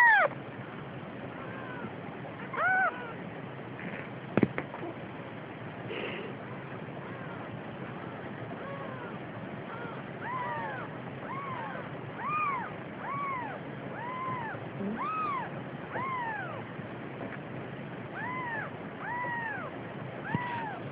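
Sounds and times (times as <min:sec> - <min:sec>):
kittens mewing: 0:00.0 - 0:00.4, 0:01.3 - 0:04.1, 0:05.9 - 0:16.7, 0:18.1 - 0:20.9.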